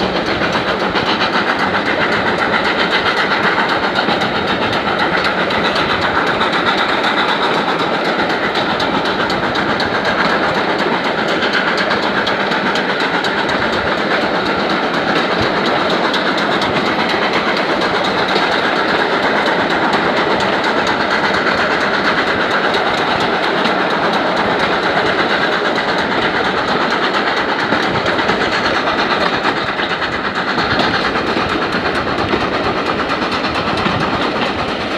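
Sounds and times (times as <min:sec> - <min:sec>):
fine clicking: 0:00.0 - 0:34.9
train running over rails: 0:00.0 - 0:34.9.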